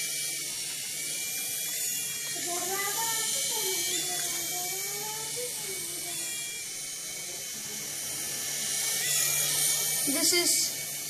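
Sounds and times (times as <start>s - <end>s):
toy helicopter rotors whirring: 0.0s - 11.0s.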